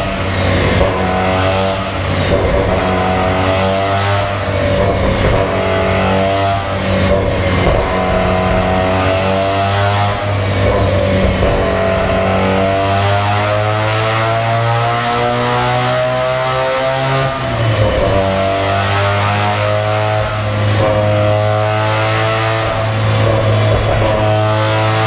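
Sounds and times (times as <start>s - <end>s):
car engine revving under load: 0.0s - 25.0s
steady low drone: 0.0s - 25.0s.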